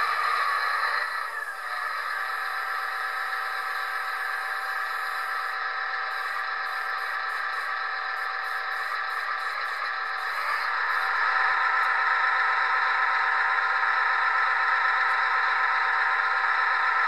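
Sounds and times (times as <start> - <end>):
small electric motor whining: 0.0 - 17.0.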